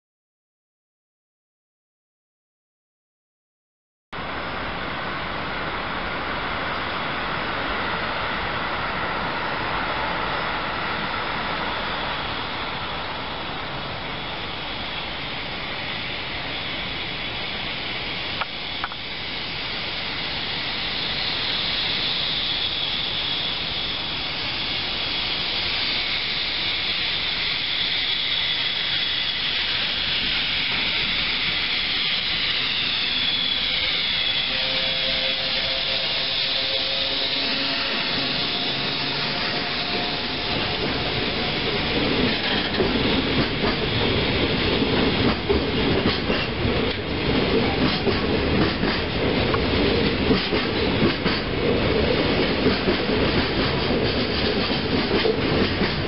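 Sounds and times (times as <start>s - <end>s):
approaching freight train: 4.2s - 56.0s
high hiss: 6.6s - 56.0s.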